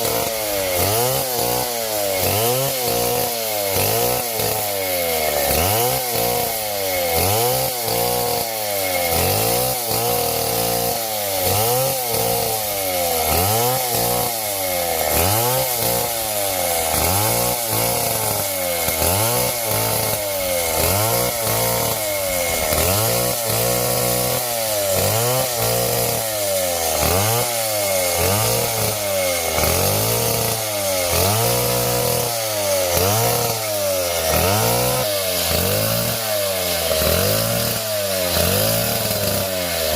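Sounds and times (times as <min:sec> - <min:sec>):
small chainsaw cutting wood: 0:00.0 - 0:39.9.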